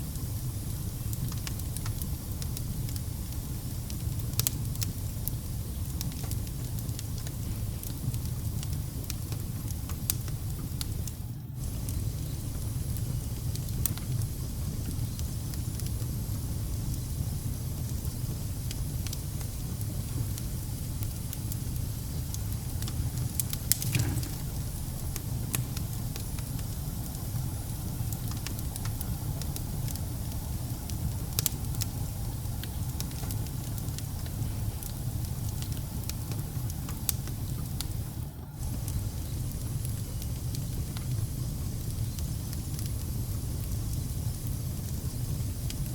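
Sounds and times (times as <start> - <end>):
fire crackles and pops: 0.0 - 45.9
wood fire rumbling: 0.0 - 45.9.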